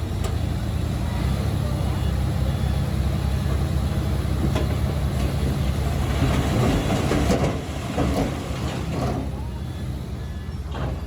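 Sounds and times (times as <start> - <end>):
heavy diesel machinery running: 0.0 - 11.0.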